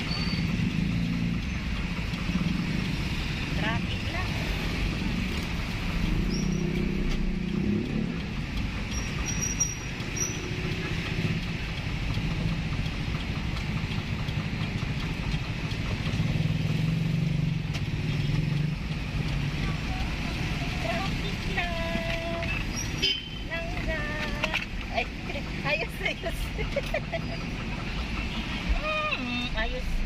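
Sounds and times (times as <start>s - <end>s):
van engine and road noise: 0.0s - 30.0s.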